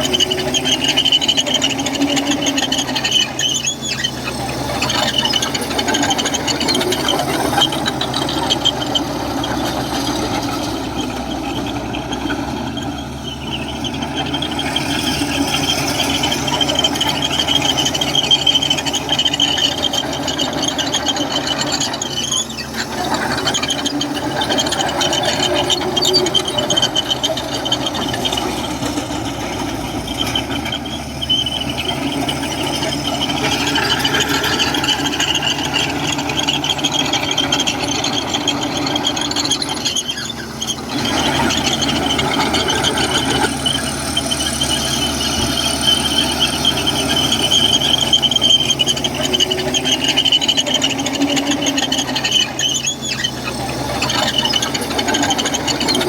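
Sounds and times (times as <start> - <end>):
bulldozer diesel engine running: 0.0 - 56.0
high-pitched squeal: 0.0 - 56.0.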